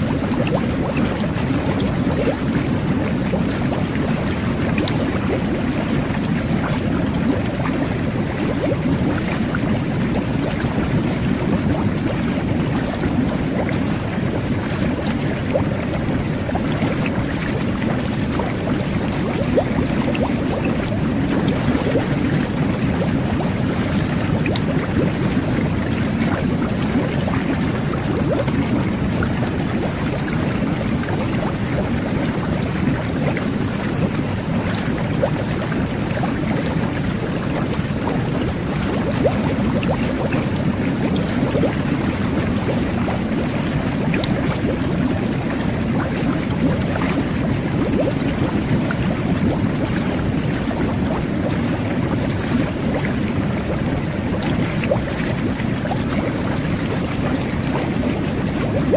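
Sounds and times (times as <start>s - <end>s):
whirlpool tub bubbling: 0.0s - 58.9s.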